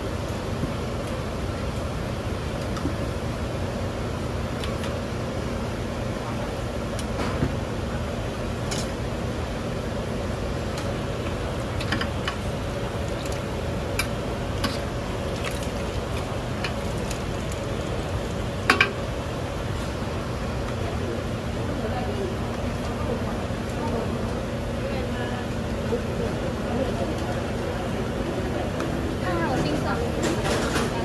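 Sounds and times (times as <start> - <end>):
low kitchen hum: 0.0 - 31.0.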